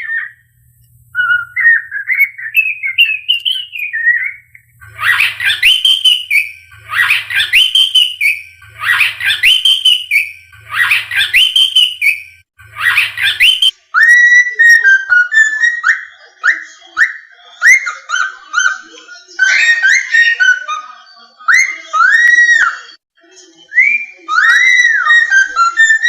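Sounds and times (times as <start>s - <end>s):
cockatiel whistling: 0.0s - 0.5s, 1.1s - 18.8s, 19.4s - 20.8s, 21.5s - 22.8s, 23.8s - 26.0s.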